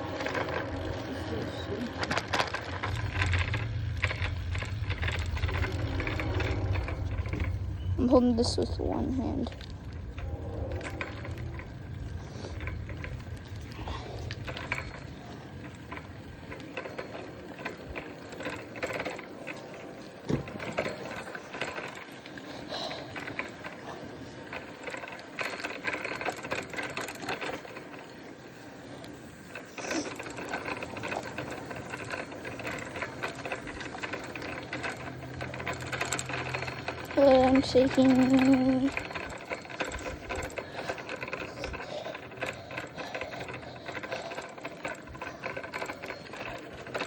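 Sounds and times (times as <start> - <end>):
bicycle rattling and clicking: 0.0 - 47.0.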